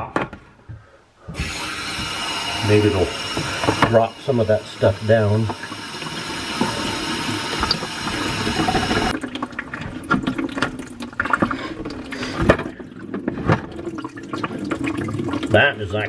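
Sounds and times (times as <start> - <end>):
water rushing into bucket: 1.4 - 16.0
water dripping into bucket: 2.0 - 16.0.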